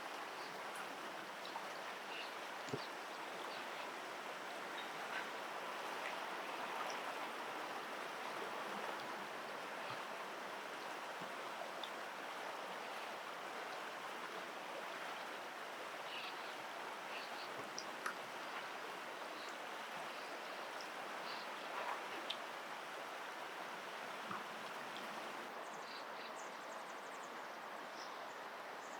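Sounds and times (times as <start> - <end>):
stream water rushing: 0.0 - 25.6.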